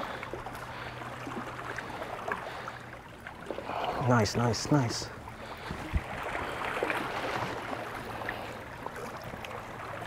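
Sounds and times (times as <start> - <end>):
small waves lapping on rocks: 0.0 - 10.0.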